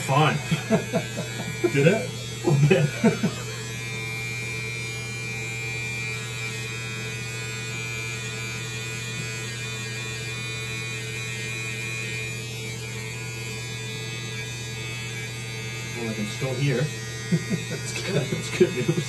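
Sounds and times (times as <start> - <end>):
electric hair clippers humming: 0.0 - 19.0.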